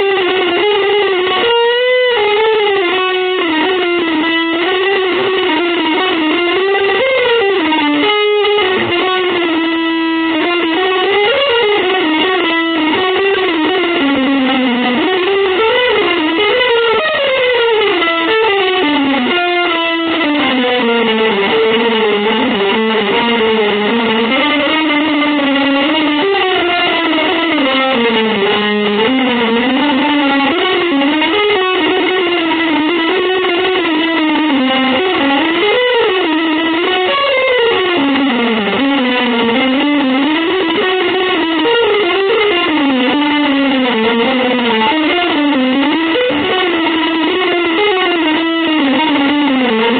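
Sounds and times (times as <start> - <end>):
electric guitar gliding melody: 0.0 - 49.9.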